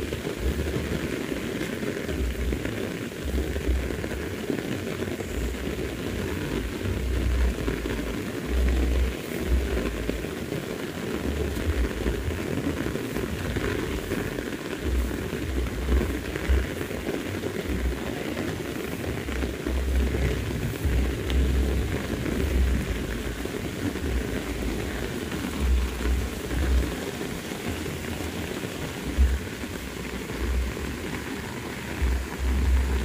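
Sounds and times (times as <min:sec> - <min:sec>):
low rumbles: 0:00.0 - 0:01.0, 0:02.1 - 0:10.6, 0:11.2 - 0:33.0
heavy rain on grass: 0:00.0 - 0:33.0.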